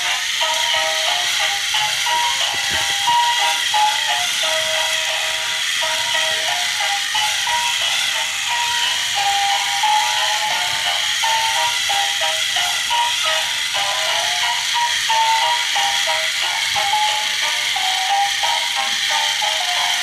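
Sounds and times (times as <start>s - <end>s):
simple stepped melody: 0.0s - 20.0s
steady hiss: 0.0s - 20.0s.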